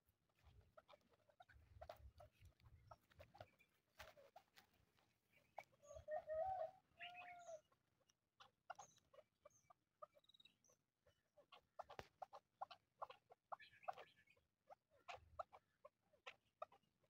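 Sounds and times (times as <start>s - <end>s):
partridge calling: 0.2s - 17.0s.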